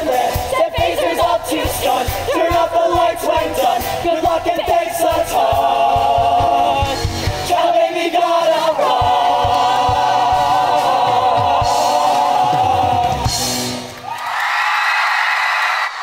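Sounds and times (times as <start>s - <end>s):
ensemble of voices singing: 0.0s - 13.9s.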